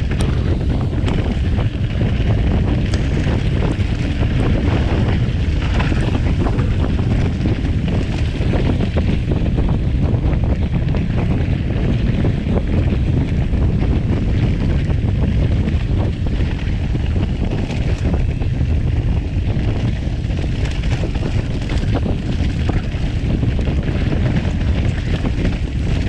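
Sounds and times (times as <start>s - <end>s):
bike clicks and rattles: 0.0s - 26.0s
mountain bike rolling on dirt: 0.0s - 26.0s
wind buffeting microphone: 0.0s - 26.0s.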